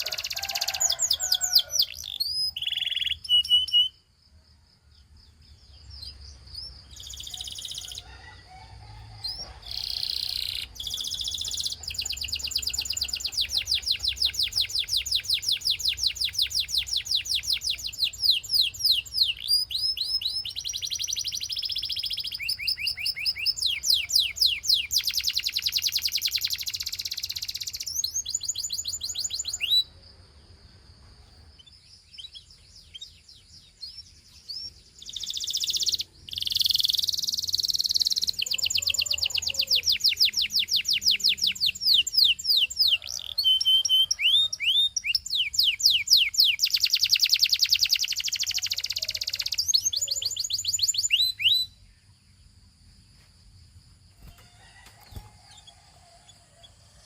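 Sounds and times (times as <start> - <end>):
canary singing trills: 0.0 - 4.1, 5.3 - 30.0, 31.3 - 52.7.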